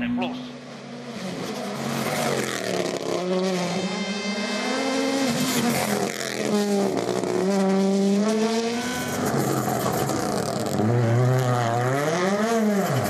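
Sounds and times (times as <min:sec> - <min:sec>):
rally car engine at high revs: 0:00.3 - 0:13.0.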